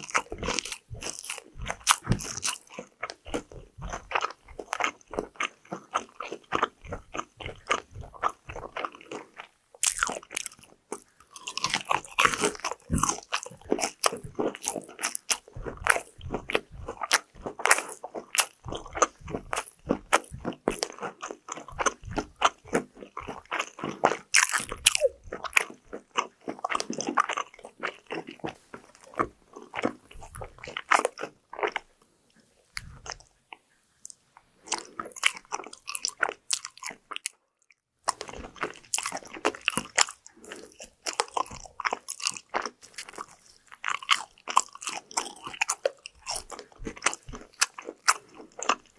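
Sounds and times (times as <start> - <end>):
crunching and chewing crispy food: 0.0 - 48.9.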